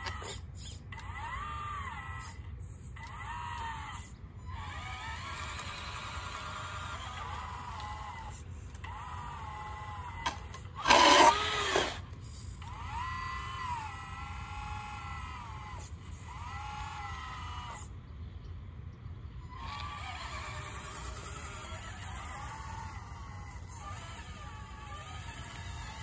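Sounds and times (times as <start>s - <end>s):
electric motor whine: 0.0s - 0.4s, 1.0s - 18.1s, 19.3s - 26.0s.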